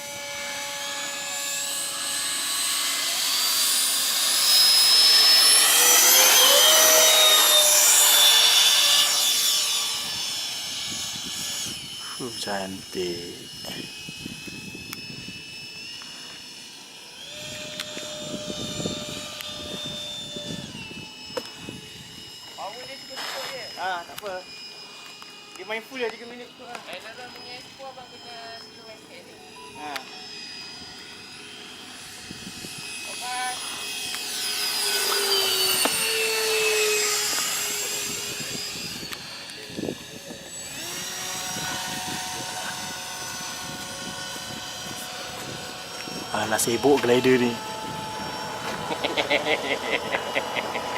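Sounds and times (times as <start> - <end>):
rc jet high whine: 0.0 - 50.9.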